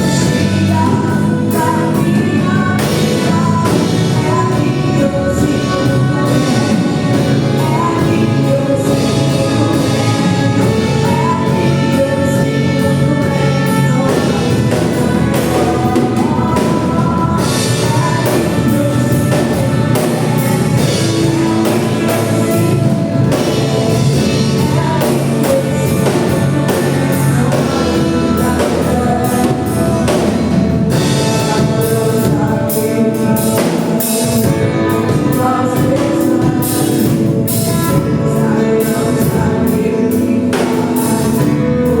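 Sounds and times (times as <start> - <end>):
band with drum kit: 0.0 - 42.0
voices singing: 0.0 - 42.0.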